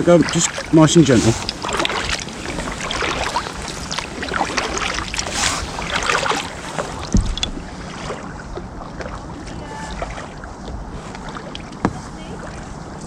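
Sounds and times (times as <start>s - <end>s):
water dripping: 0.0s - 11.9s
paddle strokes splashing water: 0.0s - 13.0s.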